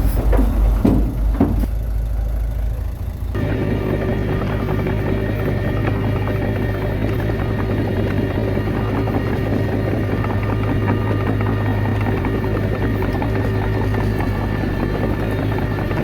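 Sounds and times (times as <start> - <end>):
bulldozer diesel engine running: 0.0 - 16.0
tracks rattling and clattering: 0.0 - 16.0.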